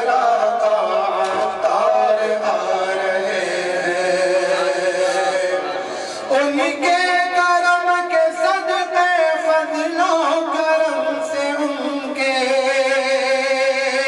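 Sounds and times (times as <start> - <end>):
man chanting unaccompanied: 0.0 - 14.0.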